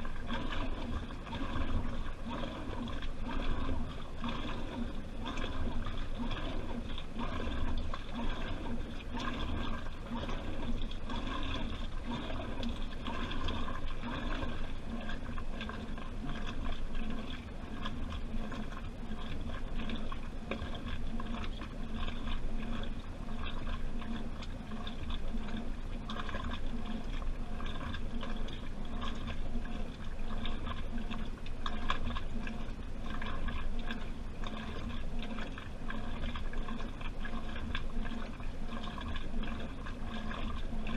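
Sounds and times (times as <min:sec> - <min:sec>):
washing machine water sloshing: 0:00.0 - 0:40.9.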